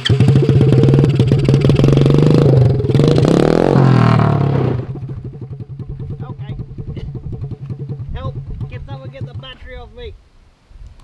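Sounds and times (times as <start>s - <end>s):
engine revving hard: 0.0s - 8.9s.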